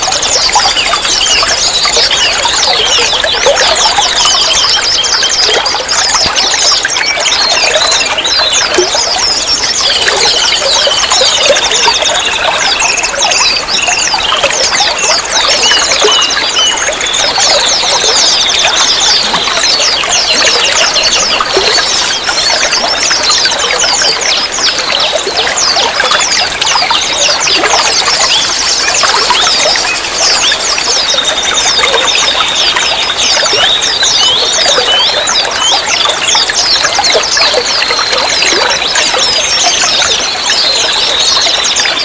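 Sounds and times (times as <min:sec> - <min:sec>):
small birds chirping: 0:00.0 - 0:42.0
water trickling and pouring: 0:00.0 - 0:42.0.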